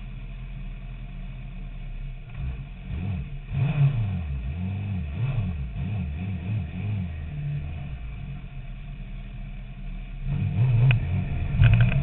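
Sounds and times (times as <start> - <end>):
motorcycle engine revving: 2.3 - 12.0.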